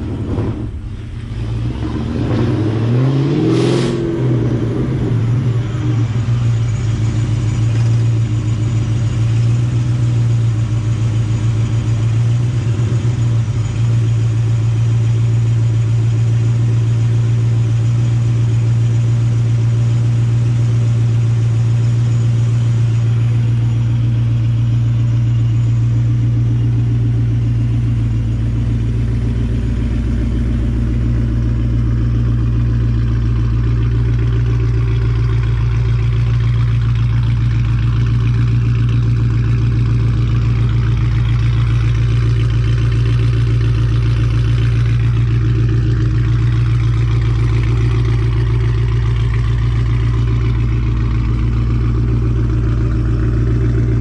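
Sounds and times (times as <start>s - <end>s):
car exhaust droning: 0.0s - 54.0s.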